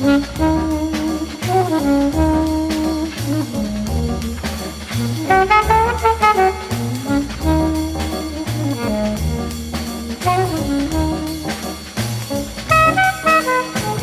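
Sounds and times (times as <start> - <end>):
jazz music with brass melody: 0.0 - 14.0.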